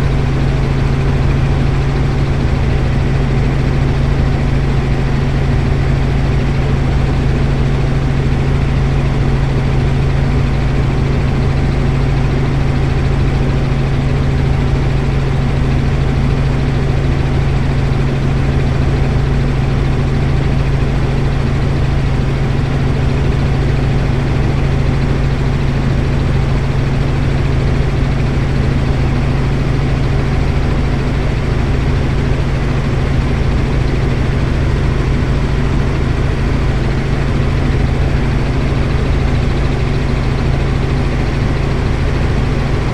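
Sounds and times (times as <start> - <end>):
helicopter engine and rotor drone: 0.0 - 42.9.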